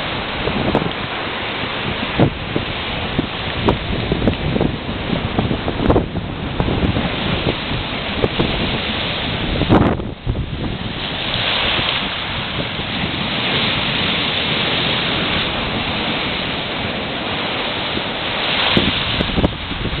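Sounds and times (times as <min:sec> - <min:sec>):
sea surf washing ashore: 0:00.0 - 0:20.0
wind buffeting microphone: 0:00.0 - 0:20.0.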